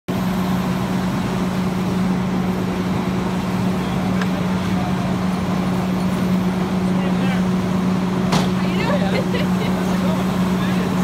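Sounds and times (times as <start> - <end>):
fire truck engines humming: 0.1 - 11.0
street noise: 0.1 - 11.0.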